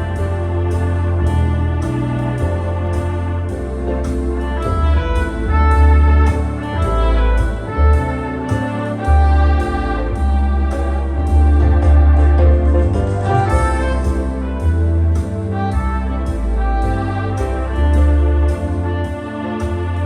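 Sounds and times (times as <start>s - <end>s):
organ playing chords: 0.0s - 20.0s
rhythm unit beat: 0.0s - 20.0s.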